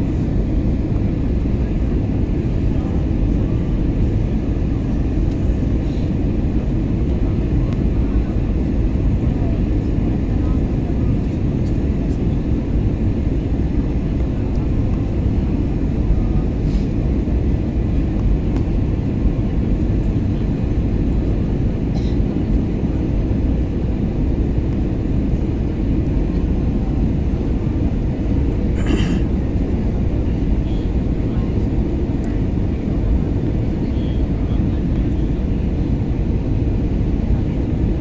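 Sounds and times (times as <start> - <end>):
airliner engines rumbling: 0.0 - 38.0.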